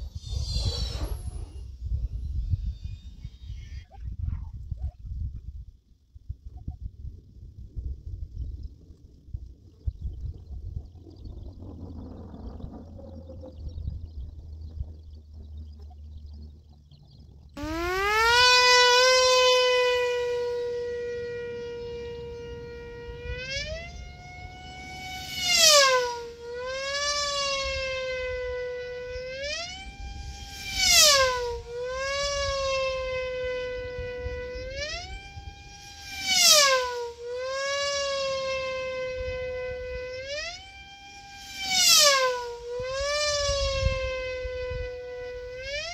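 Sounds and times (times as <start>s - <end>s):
model plane motor whine: 0.0s - 4.2s, 11.9s - 45.9s.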